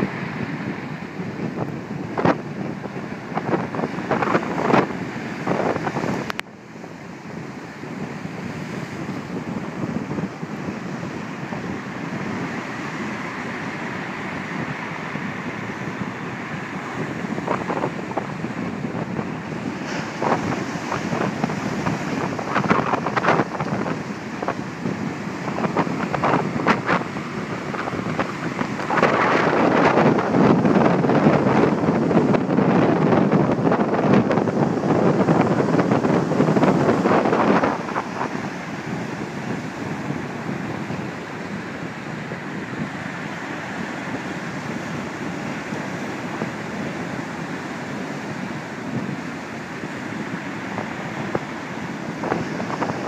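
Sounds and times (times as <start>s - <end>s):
sea surf breaking over rocks: 0.0s - 53.0s
wind buffeting microphone: 0.0s - 53.0s.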